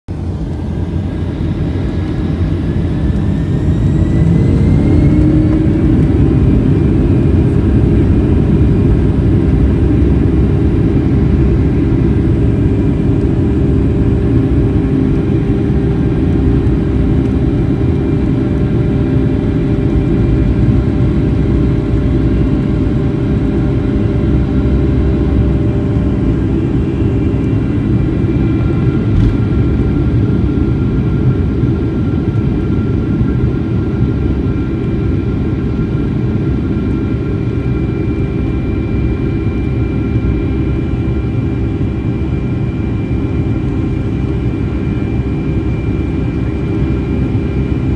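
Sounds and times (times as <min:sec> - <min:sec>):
jet engine whine: 0:00.1 - 0:47.9
jet engines roaring: 0:00.1 - 0:47.9.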